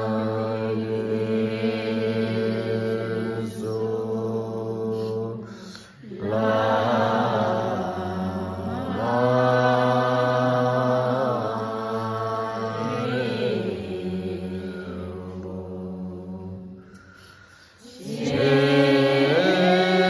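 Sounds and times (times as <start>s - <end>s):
group chanting in unison: 0.0s - 20.0s.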